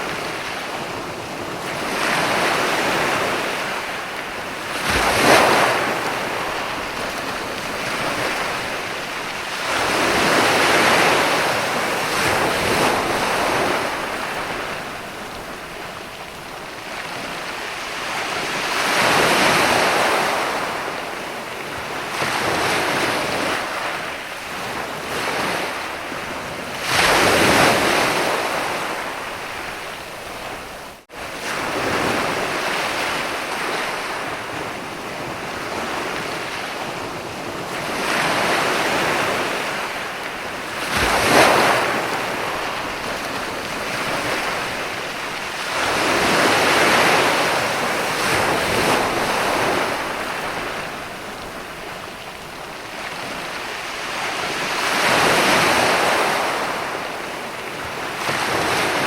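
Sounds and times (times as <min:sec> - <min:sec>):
surf washing onto beach: 0:00.0 - 0:59.0.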